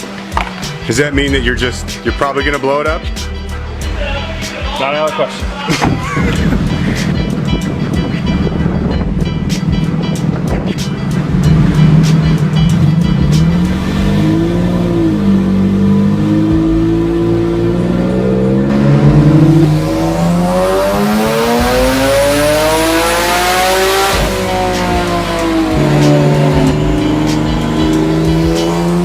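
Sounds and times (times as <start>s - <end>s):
turbocharged car engine revving: 5.7s - 29.0s.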